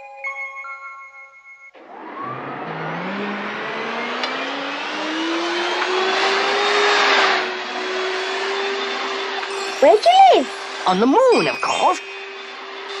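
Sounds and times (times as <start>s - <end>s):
motor whine rising in pitch: 1.8s - 11.4s, 12.0s - 13.0s.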